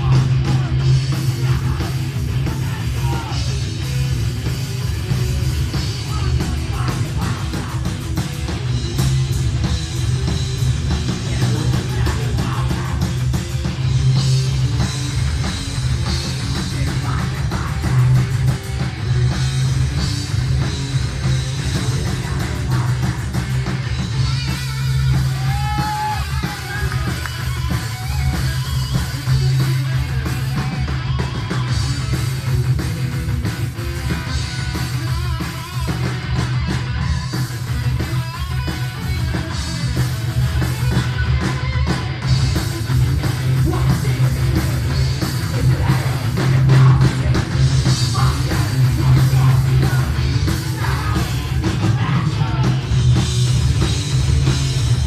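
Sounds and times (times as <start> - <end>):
drum kit: 0.0 - 55.0
electric guitars: 0.0 - 55.0
heavy metal band playing live: 0.0 - 55.0.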